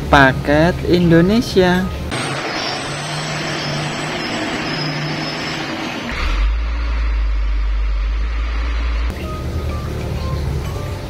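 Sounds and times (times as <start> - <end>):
deep diesel engine rumble: 0.0 - 11.0.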